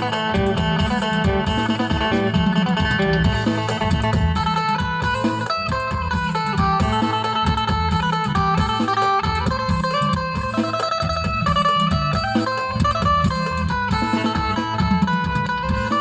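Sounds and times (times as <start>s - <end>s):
plucked lute melody: 0.0s - 16.0s
pulsing low bass beat: 0.0s - 16.0s.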